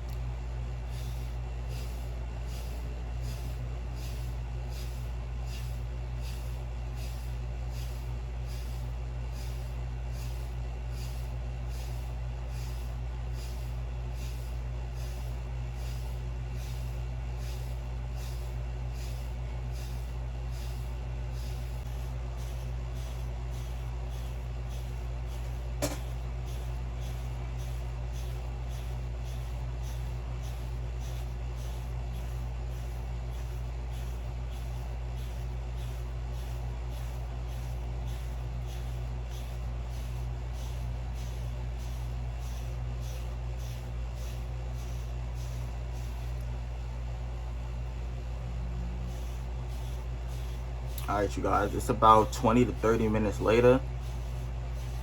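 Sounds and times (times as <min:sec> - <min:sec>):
steady low hum: 0:00.0 - 0:55.0
hairbrush bristles swishing through hair: 0:01.0 - 0:46.5, 0:49.1 - 0:55.0.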